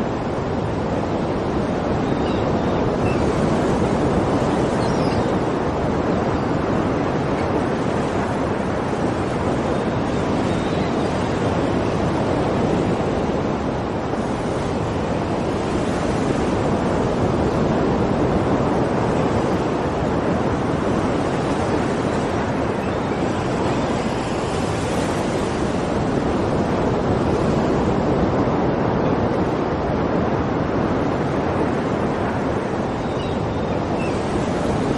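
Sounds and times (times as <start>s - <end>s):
sea waves washing onto shore: 0.0s - 34.9s
wind: 0.0s - 34.9s.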